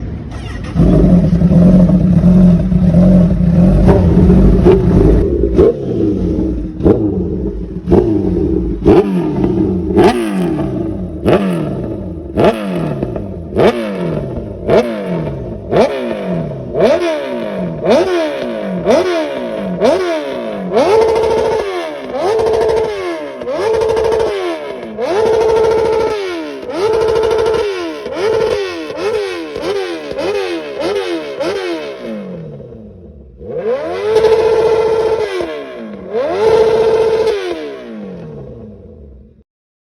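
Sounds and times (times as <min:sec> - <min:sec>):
motorcycle engine revving: 0:00.0 - 0:39.4.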